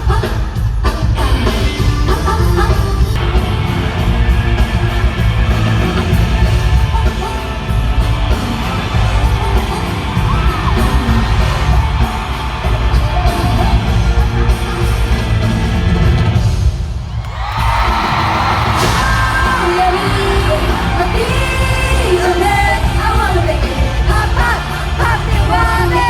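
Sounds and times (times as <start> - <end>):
loud pop music with singing: 0.0 - 16.4, 17.3 - 26.0
crowd yelling and whooping: 3.2 - 16.4, 17.0 - 26.0.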